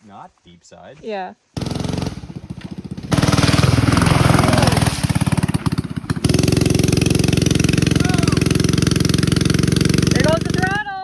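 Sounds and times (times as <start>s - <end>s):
mini bike engine running: 1.6s - 11.0s.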